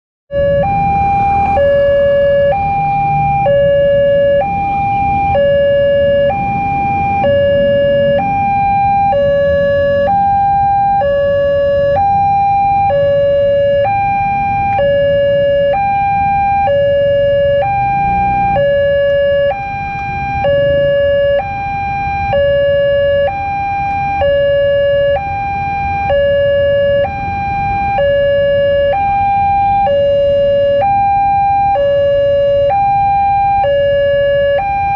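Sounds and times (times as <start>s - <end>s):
level crossing two-tone alarm: 0.3s - 34.9s.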